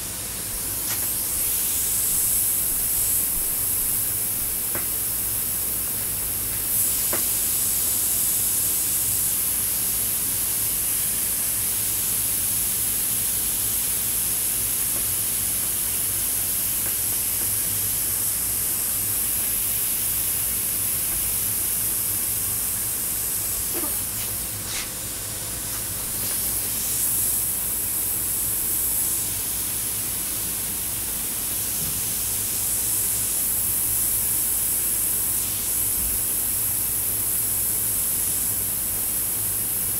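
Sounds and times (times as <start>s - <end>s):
airbrush spraying hiss: 0.1s - 39.9s.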